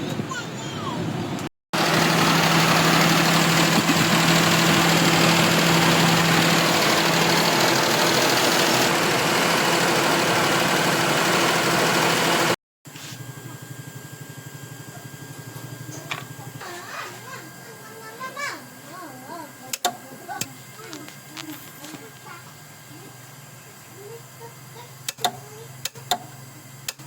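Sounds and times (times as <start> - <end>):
car engine running: 1.0 - 27.0.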